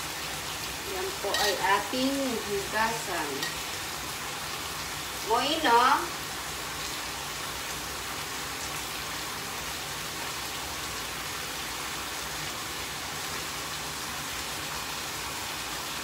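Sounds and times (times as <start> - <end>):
meat sizzling in a frying pan: 0.0 - 13.4.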